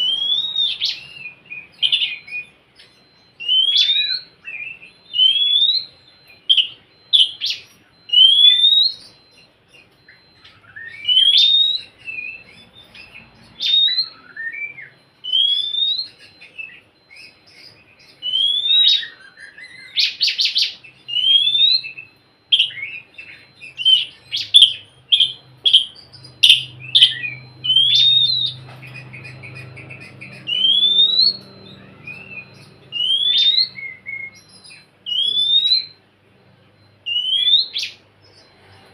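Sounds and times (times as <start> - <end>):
bird singing whistled phrases: 0.0 - 36.0, 37.0 - 38.9.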